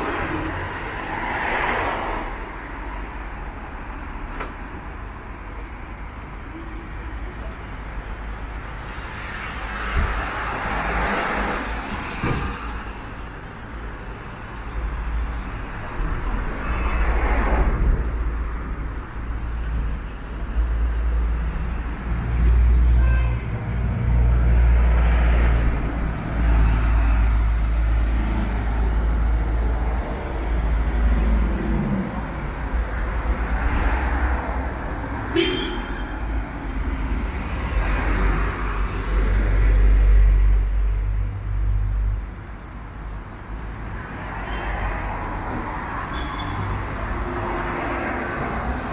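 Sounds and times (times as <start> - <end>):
low traffic rumble: 0.0 - 48.9
vehicles passing: 0.0 - 48.9.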